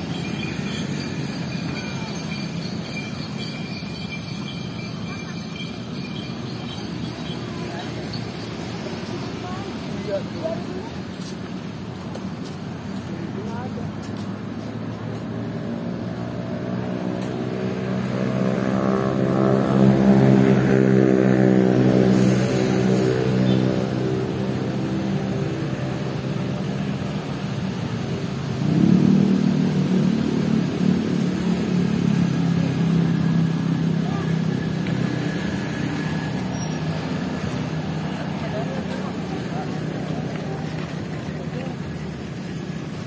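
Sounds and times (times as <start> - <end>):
vehicles passing close by: 0.0 - 43.0.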